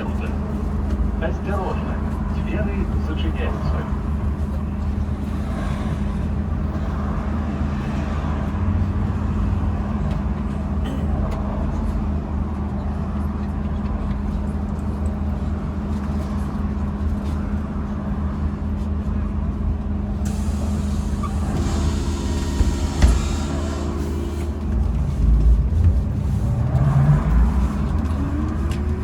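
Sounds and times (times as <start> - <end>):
road rumble: 0.0 - 29.0
trolleybus low hum: 0.0 - 29.0.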